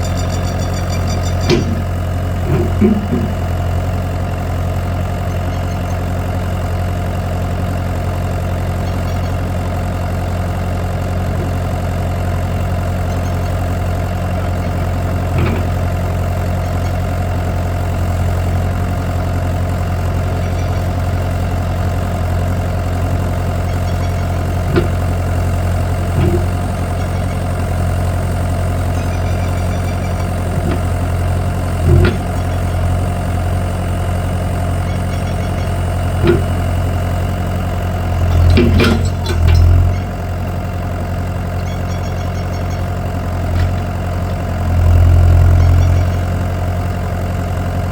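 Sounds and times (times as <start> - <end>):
motor humming: 0.0 - 47.9.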